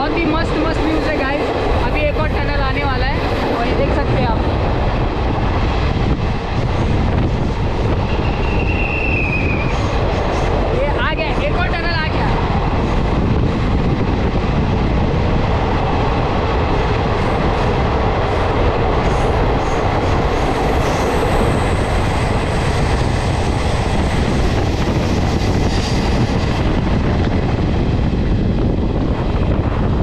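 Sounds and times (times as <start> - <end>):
rushing air: 0.0 - 30.0
train wheels rumbling on rails: 0.0 - 30.0.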